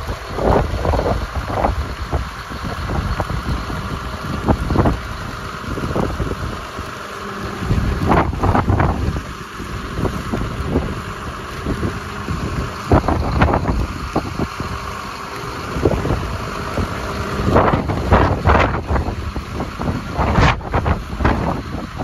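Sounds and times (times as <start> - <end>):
tractor diesel engine idling: 0.0 - 22.0
wind gusting on microphone: 0.0 - 22.0.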